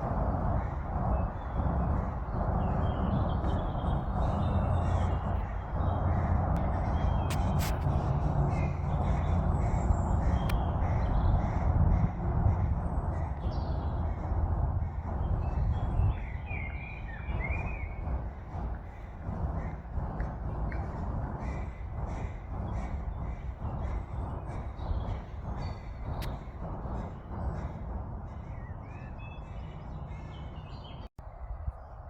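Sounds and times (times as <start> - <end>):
bird calls: 0.0 - 31.1
steady low rumble: 0.0 - 32.0.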